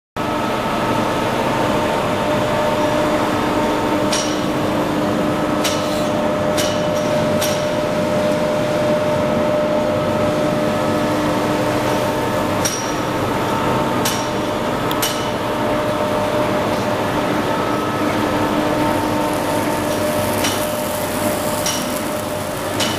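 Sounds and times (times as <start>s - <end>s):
machinery humming: 0.2s - 22.9s.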